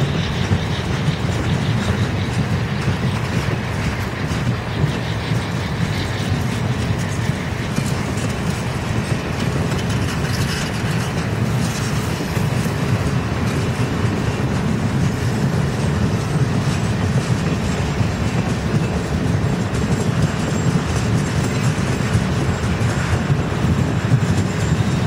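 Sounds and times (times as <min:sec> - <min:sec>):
faint high wheel noise: 0:00.0 - 0:25.0
train wheels rumbling on track: 0:00.0 - 0:25.0.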